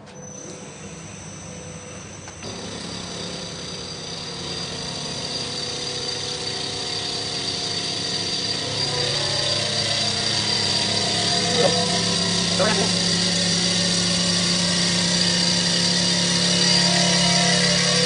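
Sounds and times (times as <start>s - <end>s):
milling machine whine and hum: 0.0s - 18.0s.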